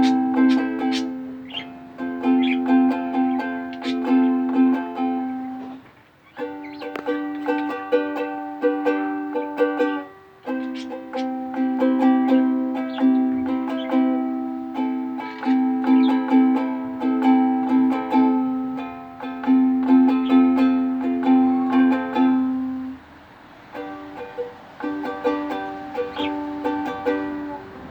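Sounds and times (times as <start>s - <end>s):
ukulele strumming chords: 0.0s - 27.9s.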